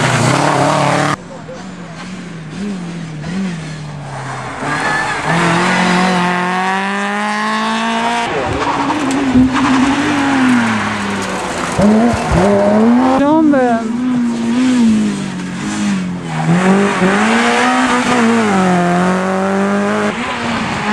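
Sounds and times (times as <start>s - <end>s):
rally car engine revving: 0.0s - 20.9s.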